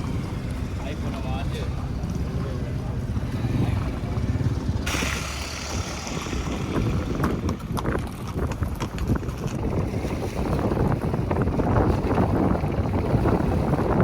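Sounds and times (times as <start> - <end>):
vehicle rumble: 0.0 - 14.0
wind noise: 0.0 - 14.0.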